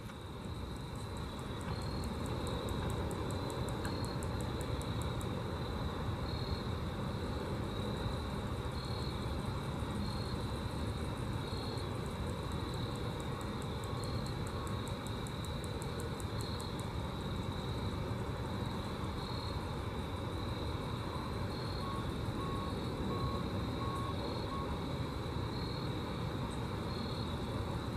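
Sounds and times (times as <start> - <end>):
grasshopper stridulating: 0.0 - 27.9.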